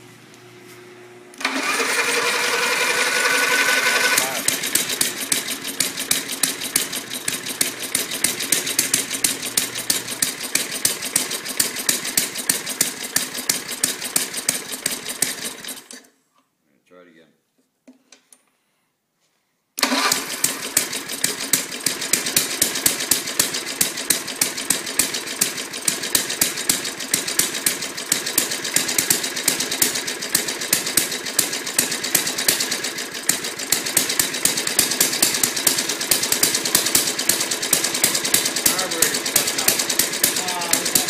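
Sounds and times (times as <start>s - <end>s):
lawnmower engine running: 1.3s - 16.0s, 19.8s - 41.0s.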